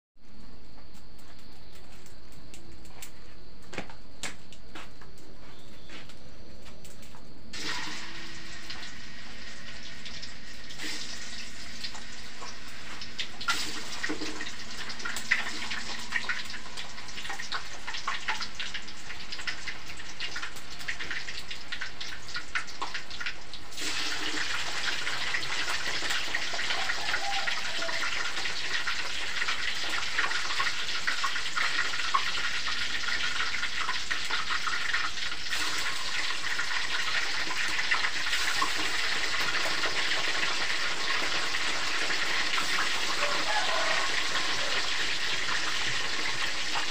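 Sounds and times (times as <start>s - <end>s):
hot oil sizzling in a wok: 6.8s - 46.9s.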